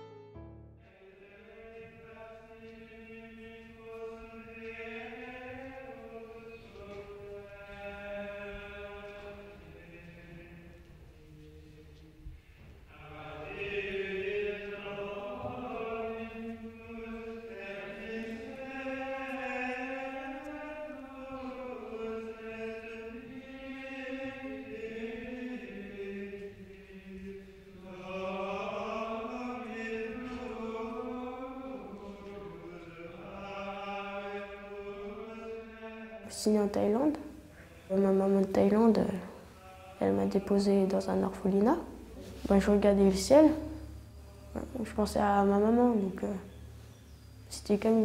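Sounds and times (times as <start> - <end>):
voices chanting in unison: 0.9 - 48.0.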